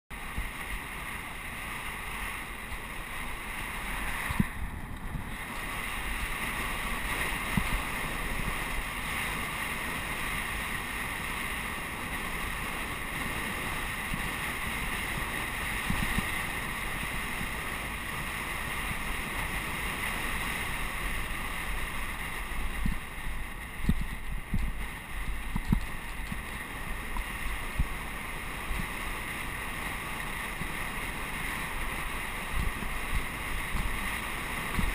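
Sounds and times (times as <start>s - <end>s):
low wind buffeting thumps: 0.1s - 34.9s
wind rushing over microphone: 0.1s - 34.9s.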